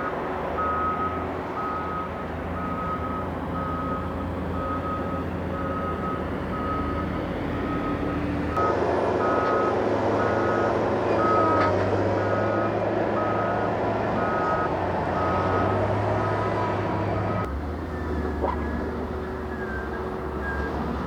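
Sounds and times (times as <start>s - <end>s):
reversing alarm beeping: 0.0s - 20.8s.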